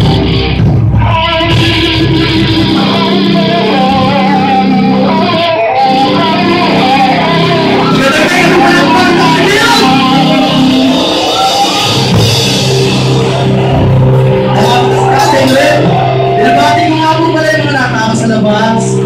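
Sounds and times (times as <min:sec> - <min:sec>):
bass guitar: 0:00.0 - 0:19.0
electric guitars: 0:00.0 - 0:19.0.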